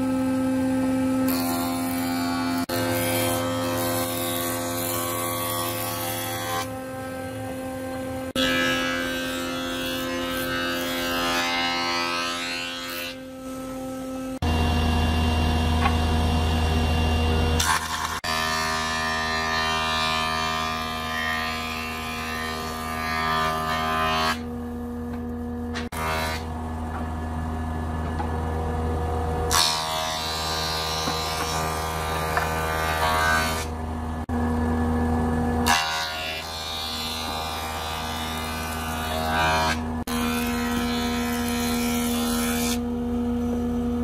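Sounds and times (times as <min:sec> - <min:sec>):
woodworking machinery motor hum: 0:00.0 - 0:44.0.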